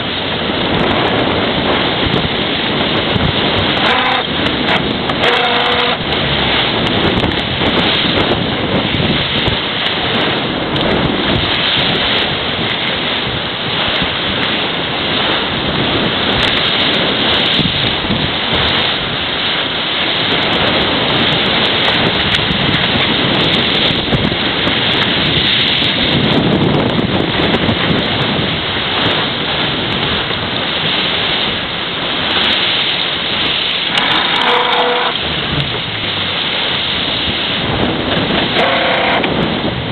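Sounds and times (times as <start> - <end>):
water rushing along hull: 0.0 - 39.9
wind buffeting microphone: 0.0 - 39.9.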